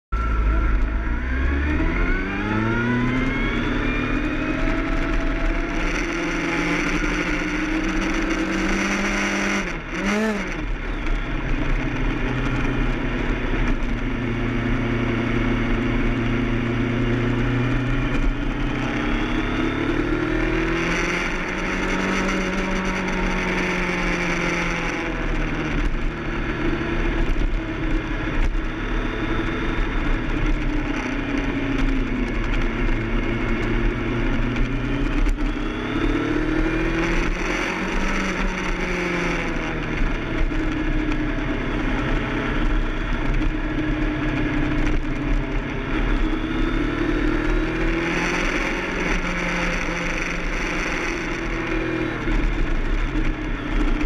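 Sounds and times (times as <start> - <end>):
motorcycle engine revving: 0.2 - 54.0.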